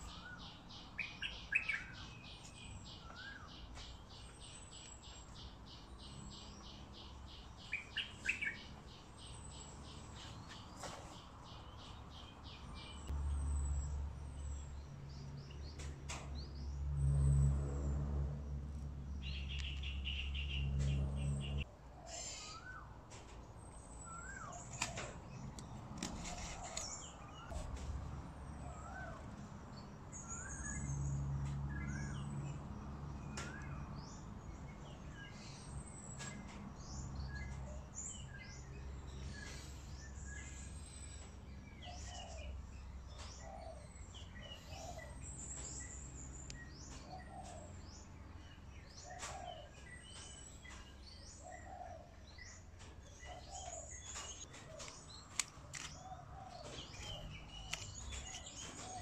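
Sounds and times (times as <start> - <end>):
wild birds chirping: 0.0 - 17.5, 18.7 - 59.0.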